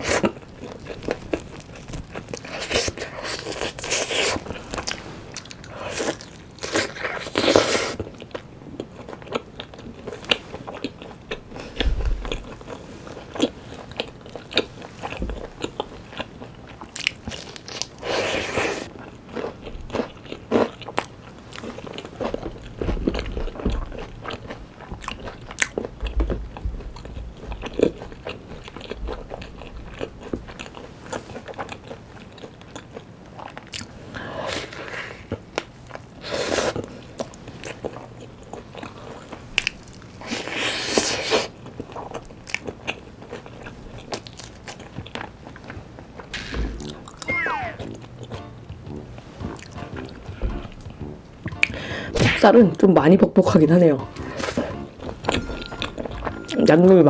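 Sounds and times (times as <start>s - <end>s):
wet chewing: 0.0s - 33.9s, 35.6s - 52.1s.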